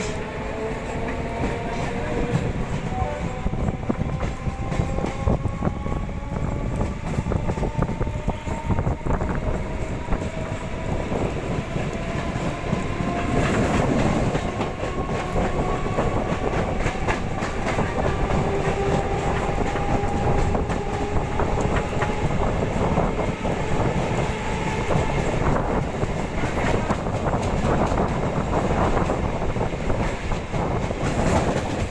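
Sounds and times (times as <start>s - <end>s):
train rumbling on track: 0.0s - 31.9s.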